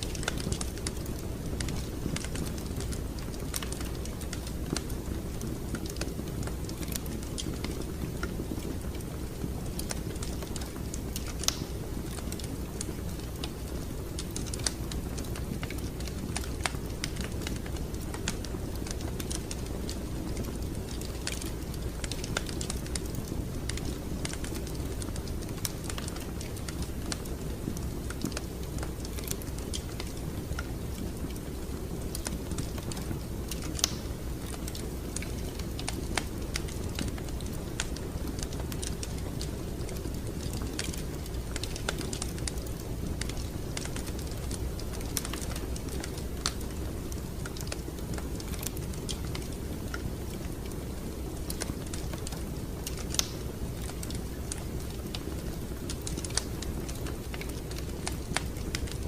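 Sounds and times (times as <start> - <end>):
flames rumbling: 0.0 - 59.0
wood fire pops and snaps: 0.0 - 59.0.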